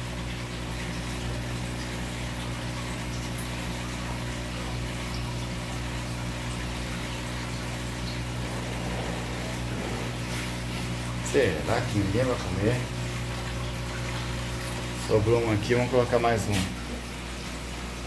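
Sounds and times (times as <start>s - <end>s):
aquarium pump humming: 0.0s - 18.0s
moving water: 0.0s - 18.0s.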